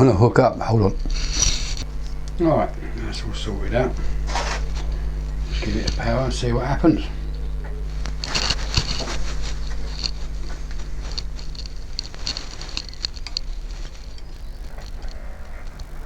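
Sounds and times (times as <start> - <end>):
model train motor hum: 0.7 - 16.0
wheels clicking on rails: 1.0 - 16.0.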